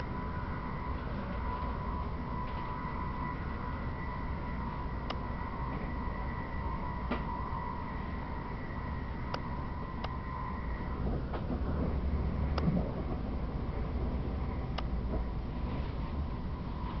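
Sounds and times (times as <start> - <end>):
thin high whine: 0.0 - 17.0
train wheels rumbling on rails: 0.0 - 17.0.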